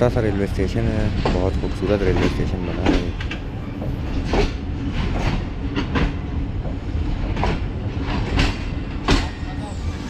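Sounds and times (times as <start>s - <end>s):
train low rumble: 0.0s - 10.0s
train wheels clattering: 1.0s - 10.0s.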